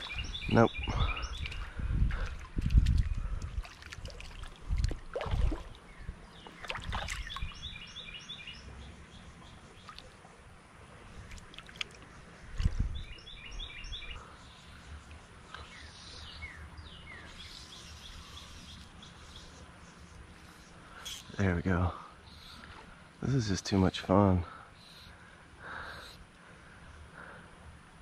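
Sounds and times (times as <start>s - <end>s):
songbird chirping: 0.0s - 27.5s.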